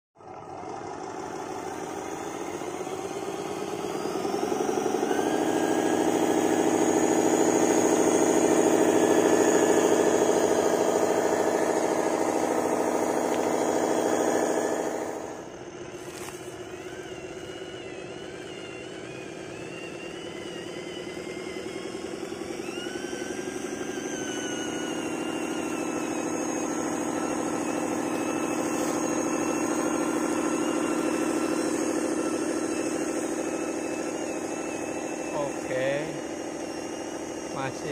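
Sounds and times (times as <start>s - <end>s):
toy truck motor running: 0.3s - 37.9s.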